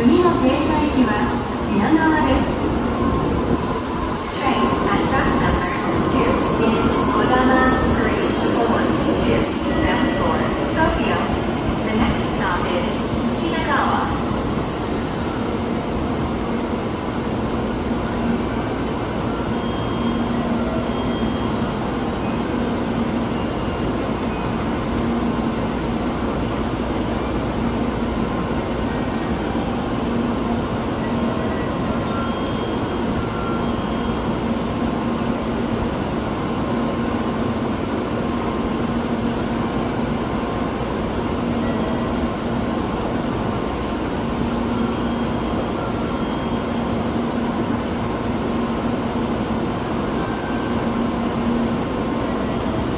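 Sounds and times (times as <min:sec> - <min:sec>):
train low hum: 0:00.0 - 0:52.9.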